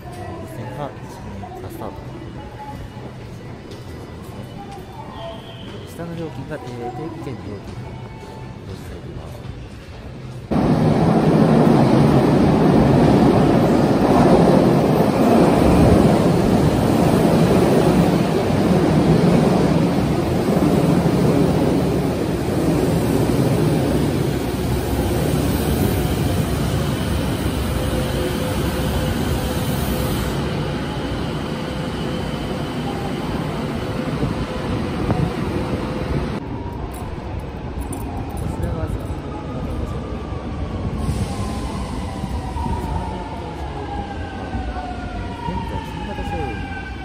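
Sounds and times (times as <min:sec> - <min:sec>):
subway train slowing to a stop: 0:00.0 - 0:47.0.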